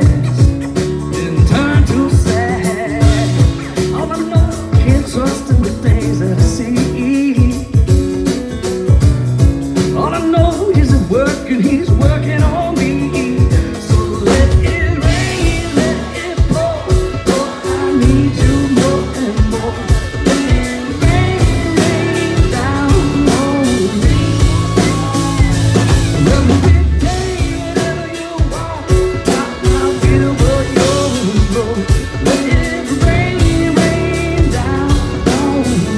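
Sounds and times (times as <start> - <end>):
drums and cymbals: 0.0 - 35.9
live rock band with singing: 0.0 - 35.9.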